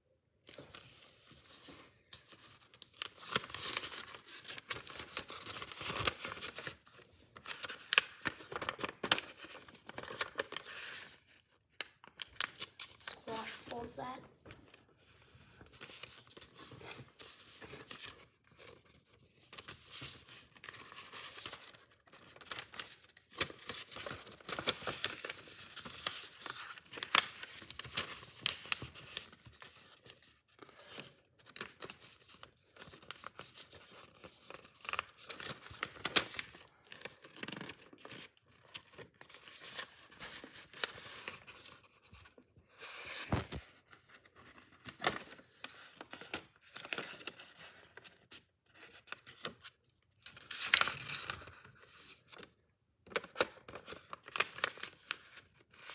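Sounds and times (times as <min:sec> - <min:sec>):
paper rustling and crinkling: 0:00.4 - 0:55.9.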